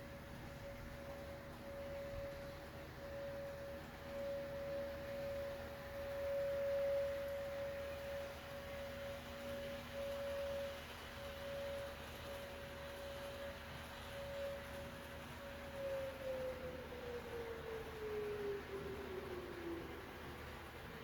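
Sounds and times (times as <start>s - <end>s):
warning siren steady tone: 0.0s - 21.0s.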